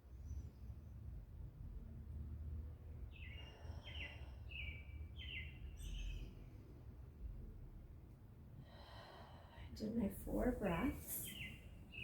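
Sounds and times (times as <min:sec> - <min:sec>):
faint low background hum: 0:00.0 - 0:12.0.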